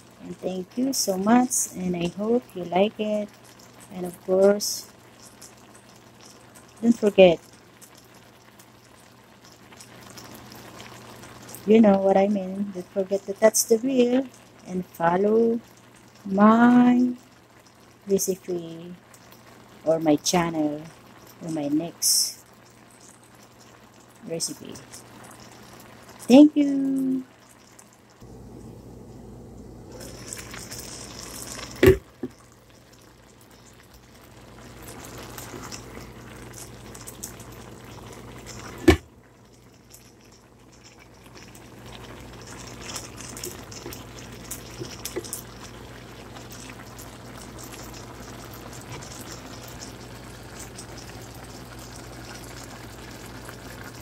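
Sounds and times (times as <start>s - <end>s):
food simmering in a pan: 0.0s - 54.0s.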